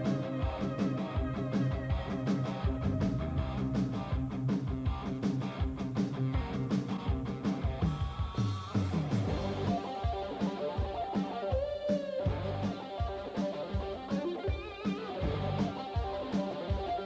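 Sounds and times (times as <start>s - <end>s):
rock guitar music: 0.0s - 17.0s
steady drum beat: 0.0s - 17.0s.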